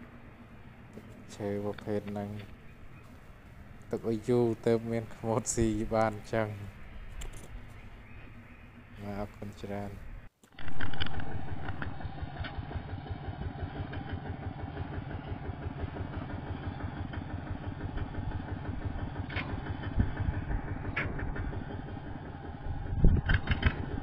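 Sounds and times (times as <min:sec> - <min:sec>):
small vehicle engine idling: 0:00.0 - 0:24.0.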